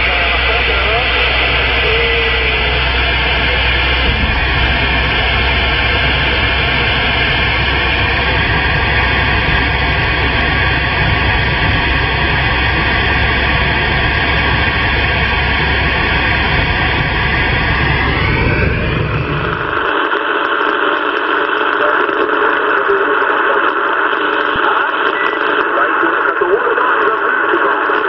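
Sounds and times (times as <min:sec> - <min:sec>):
radio static: 0:00.0 - 0:28.0.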